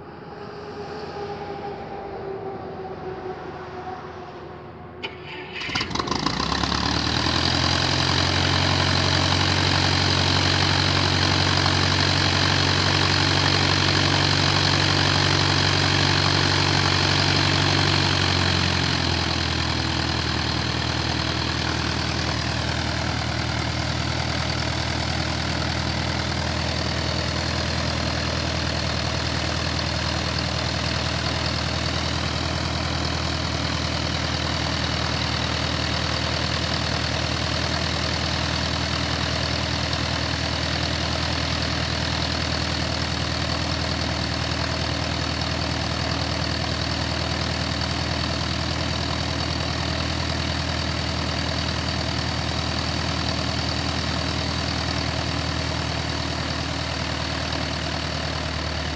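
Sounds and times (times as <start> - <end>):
light aircraft engine running: 0.0 - 58.9.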